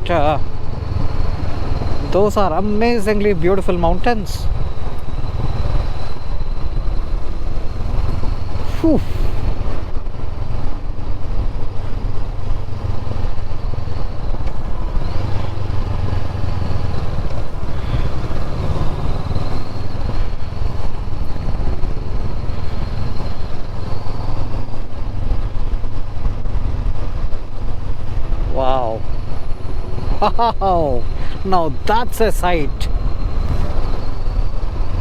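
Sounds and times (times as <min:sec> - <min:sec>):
motorcycle engine running: 0:00.0 - 0:35.0
road noise: 0:00.0 - 0:35.0
wind noise: 0:00.0 - 0:35.0.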